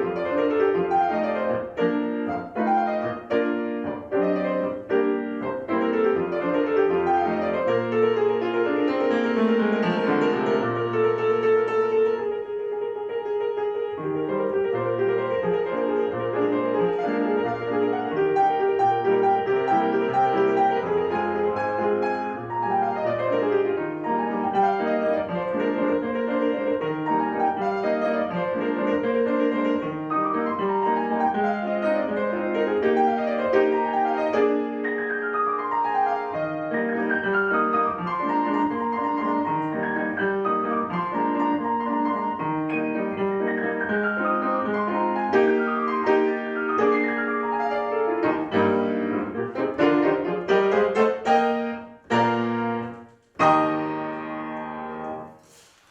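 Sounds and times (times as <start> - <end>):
solo piano classical piece: 0.0 - 55.9.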